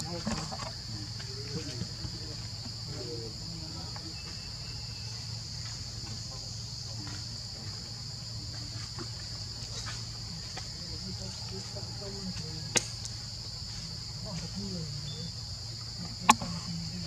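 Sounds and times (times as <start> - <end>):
shrill chorus of insects: 0.0 - 17.0.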